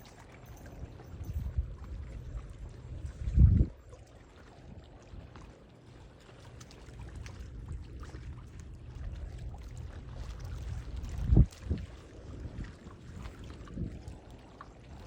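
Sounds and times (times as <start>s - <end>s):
sea water splashing: 0.0s - 15.0s
wind rumble on microphone: 0.0s - 15.0s.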